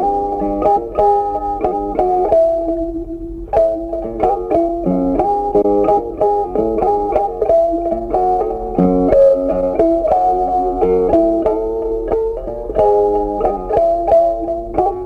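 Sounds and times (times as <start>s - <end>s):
plucked guitar tune: 0.0s - 15.0s.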